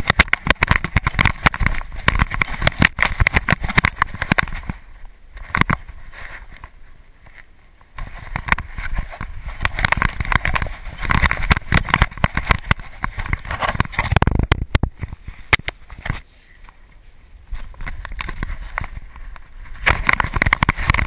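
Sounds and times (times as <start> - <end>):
camera handling knocks and rubbing: 0.0 - 4.8, 5.4 - 5.9, 7.9 - 16.2, 17.6 - 21.0.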